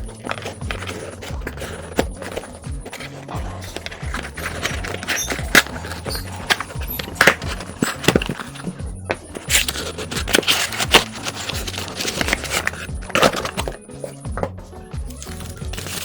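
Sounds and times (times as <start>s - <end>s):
packaging clicking and crackling: 0.0s - 14.5s, 15.1s - 16.0s
background music with bass: 0.0s - 16.0s.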